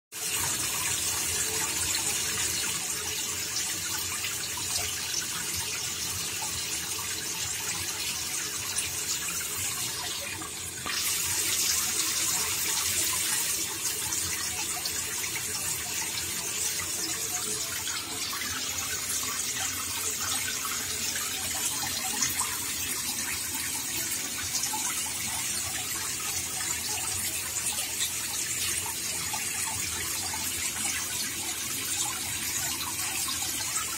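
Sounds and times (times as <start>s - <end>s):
water running into a tank: 0.1s - 33.9s.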